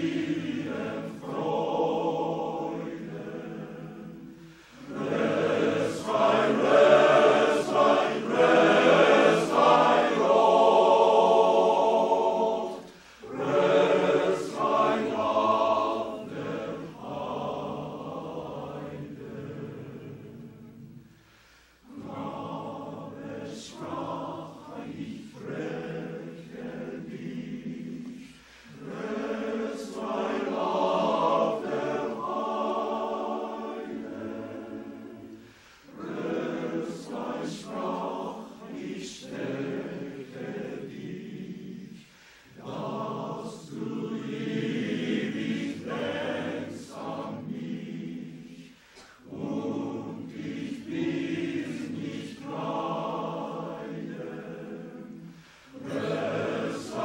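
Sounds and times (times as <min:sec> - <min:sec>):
men's choir singing: 0:00.0 - 0:21.0, 0:21.8 - 0:57.0.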